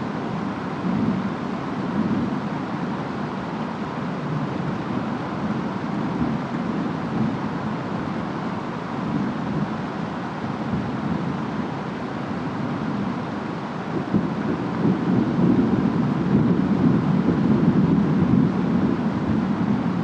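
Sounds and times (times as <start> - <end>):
steady rain: 0.0 - 20.0
storm wind: 0.0 - 20.0.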